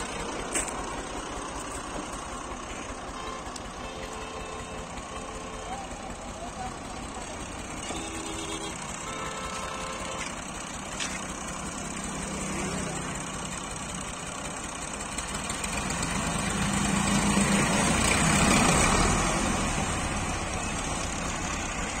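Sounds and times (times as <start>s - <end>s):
tractor diesel engines straining: 0.0s - 22.0s.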